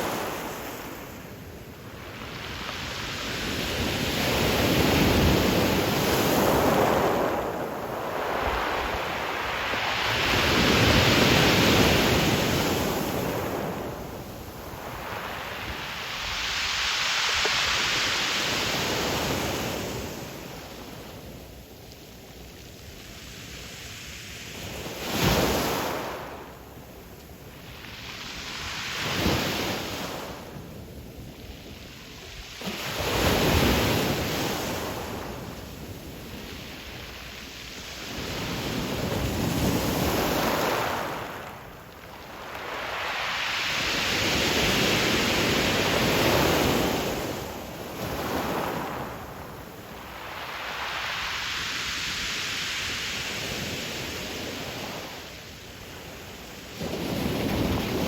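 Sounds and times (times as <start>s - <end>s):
waves breaking on pebble beach: 0.0s - 21.3s, 27.5s - 58.0s.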